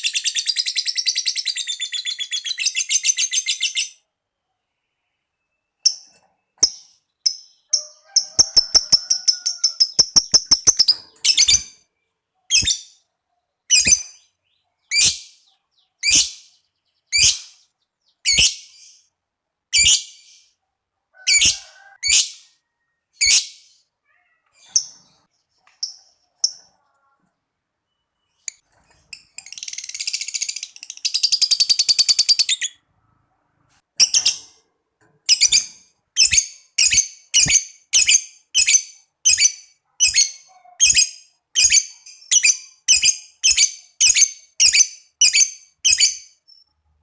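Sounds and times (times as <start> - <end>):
lovebird chirping and trilling: 0.0 - 4.1, 5.5 - 20.6, 21.2 - 26.9, 27.9 - 32.9, 34.0 - 34.6, 35.3 - 46.8.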